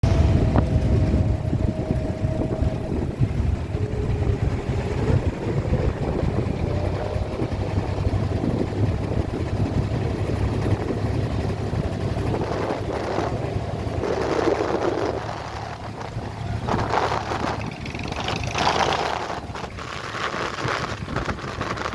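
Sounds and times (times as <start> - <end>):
boat engine rumbling: 0.0 - 21.9.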